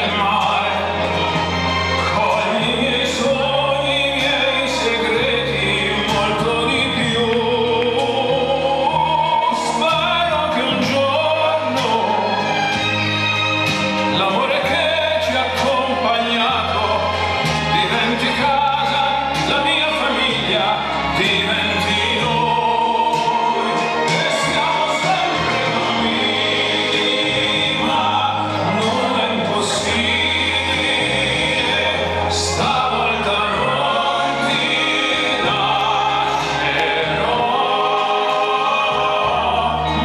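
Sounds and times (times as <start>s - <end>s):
bass line: 0.0s - 40.0s
song with singing voice: 0.0s - 40.0s.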